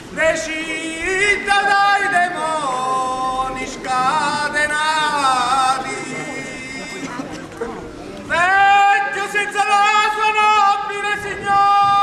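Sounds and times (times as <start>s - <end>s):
man singing long notes: 0.0s - 7.2s, 8.3s - 12.0s.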